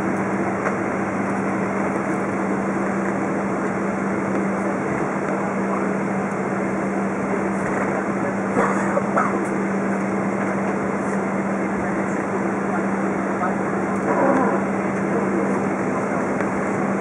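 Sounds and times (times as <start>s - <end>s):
aircraft cabin engine and air rush: 0.0s - 17.0s
constant low hum: 0.0s - 17.0s.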